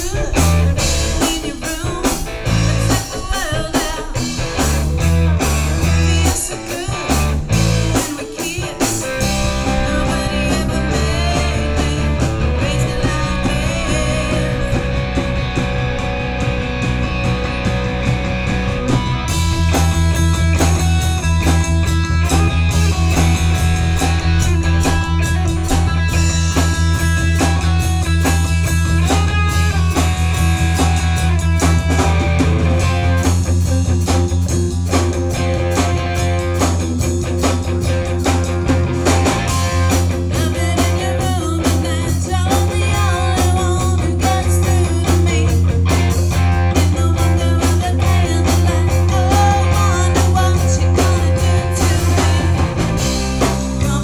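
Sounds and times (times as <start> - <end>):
bass guitar: 0.0 - 54.0
drum kit: 0.0 - 54.0
electric guitar: 0.0 - 54.0.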